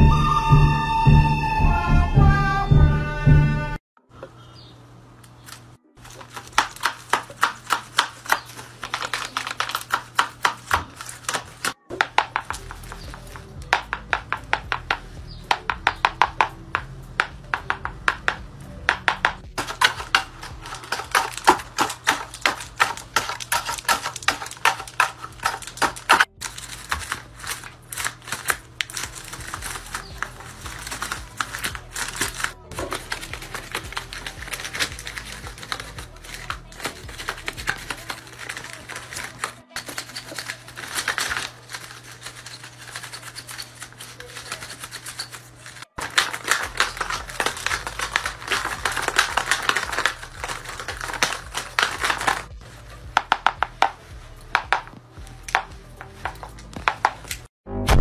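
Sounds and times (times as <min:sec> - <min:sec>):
dry papery clacks: 0:05.2 - 0:57.5.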